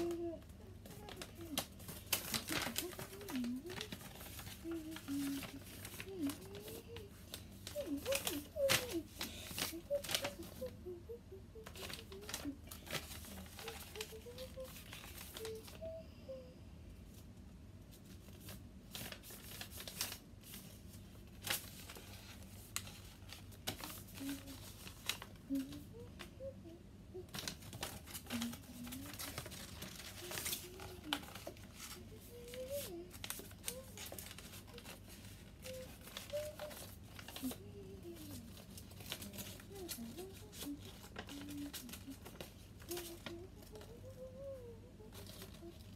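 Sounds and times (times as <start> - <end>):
paper crinkling and rustling: 0.0 - 16.0, 17.9 - 26.6, 27.2 - 45.9.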